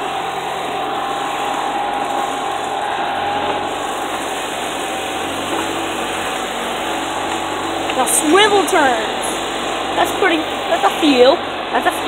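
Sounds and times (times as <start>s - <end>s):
golf cart driving with whine: 0.0s - 12.0s.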